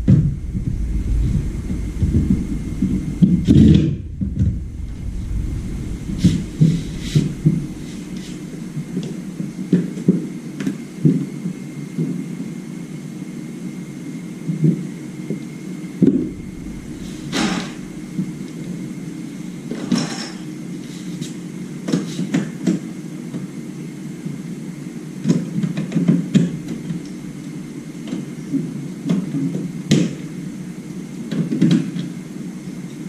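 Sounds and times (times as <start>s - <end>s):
steady low hum: 0.0s - 31.3s.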